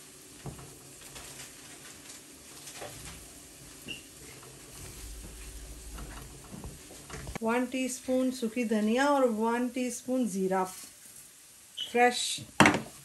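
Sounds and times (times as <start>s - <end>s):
onions sizzling in a wok: 0.0s - 13.0s.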